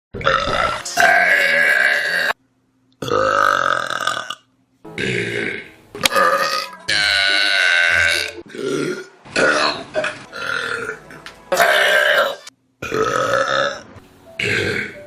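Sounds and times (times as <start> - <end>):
person burping loudly: 0.2 - 2.4, 3.0 - 15.0.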